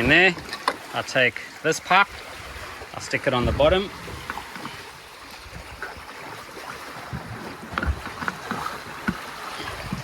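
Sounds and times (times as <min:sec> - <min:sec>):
wind and sea hiss: 0:00.0 - 0:10.0.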